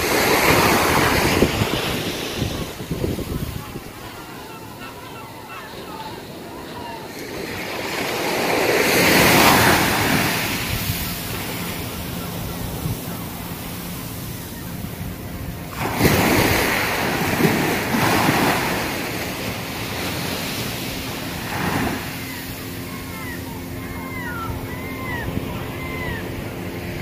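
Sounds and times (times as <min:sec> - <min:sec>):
small waves breaking on beach: 0:00.0 - 0:27.0.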